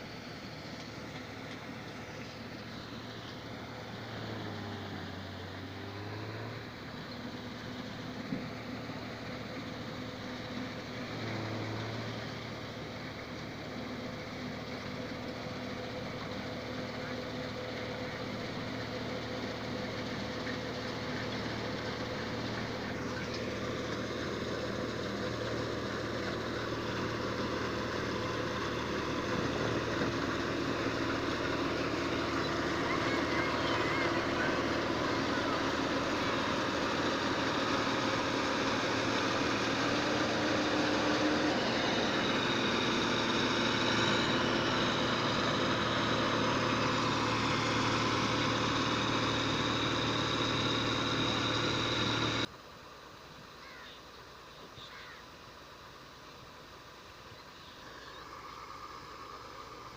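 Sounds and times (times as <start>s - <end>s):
diesel engine running: 0.0s - 52.6s, 54.6s - 59.9s.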